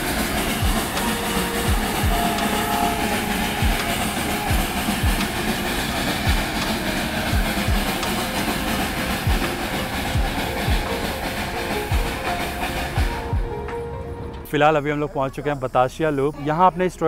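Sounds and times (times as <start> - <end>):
wheels knocking: 0.0 - 14.5
train carriage rumbling on track: 0.0 - 17.0.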